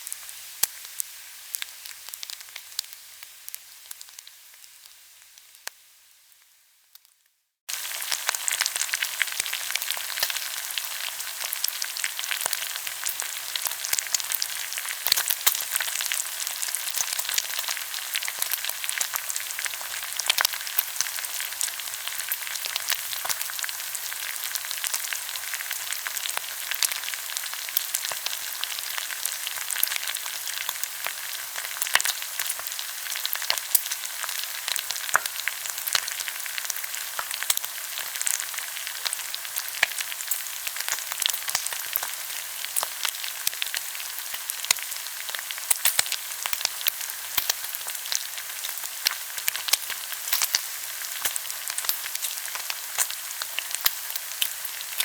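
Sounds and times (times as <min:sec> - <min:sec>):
meat sizzling on grill: 0:00.0 - 0:55.0.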